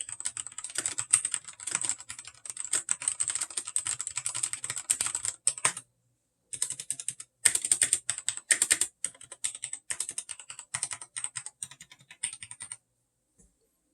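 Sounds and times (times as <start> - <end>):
typing on mechanical keyboard: 0.0 - 5.8, 6.6 - 12.8.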